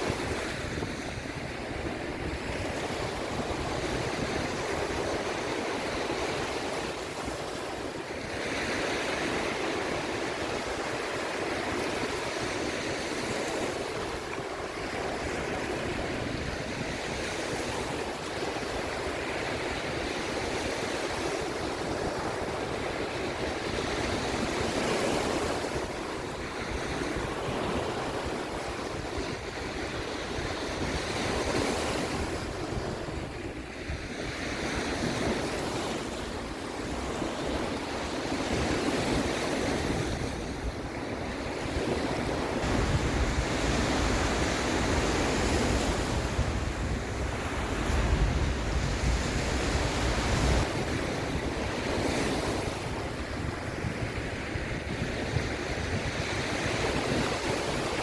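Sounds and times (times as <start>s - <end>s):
sea waves washing in: 0.0s - 58.0s
wind: 0.0s - 58.0s.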